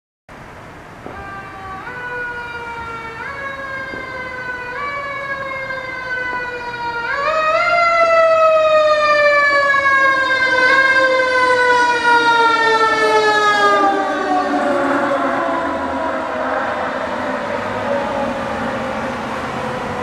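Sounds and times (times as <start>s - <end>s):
mechanical siren wailing: 1.1s - 20.0s.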